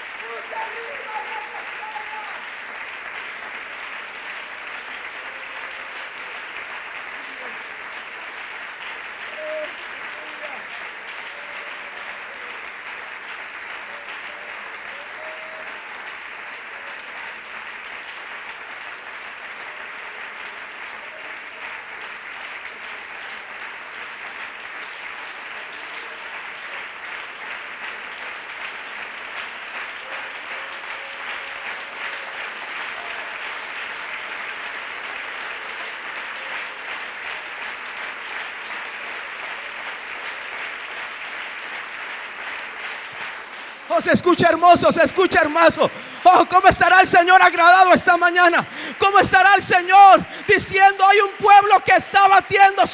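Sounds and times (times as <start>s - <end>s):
congregation applauding: 0.0s - 52.9s.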